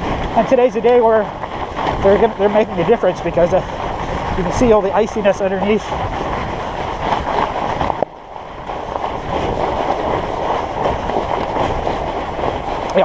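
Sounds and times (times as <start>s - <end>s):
bike tires rolling on icy snow: 0.0s - 13.0s.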